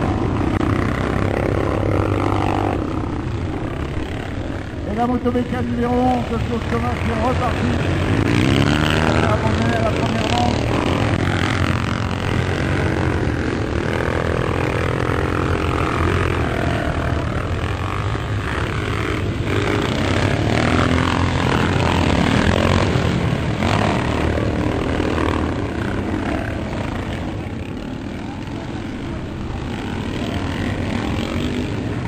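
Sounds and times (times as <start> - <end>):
motocross motorcycles revving: 0.0 - 32.0.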